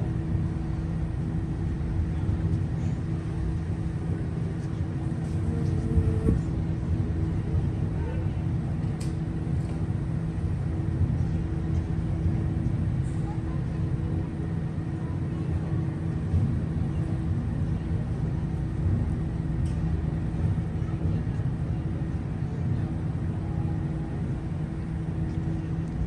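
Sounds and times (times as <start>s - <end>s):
ferry engines rumbling: 0.0s - 26.0s.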